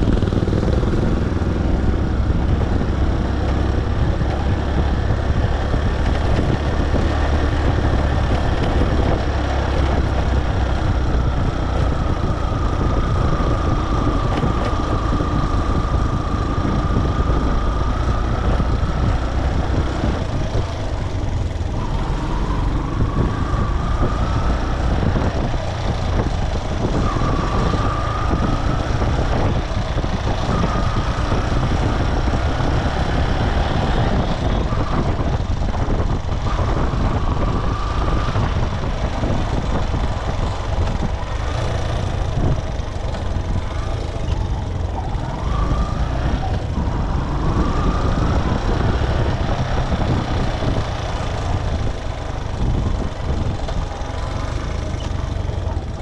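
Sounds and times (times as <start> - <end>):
motorcycle engine: 0.0 - 56.0
wind and road noise: 0.0 - 56.0.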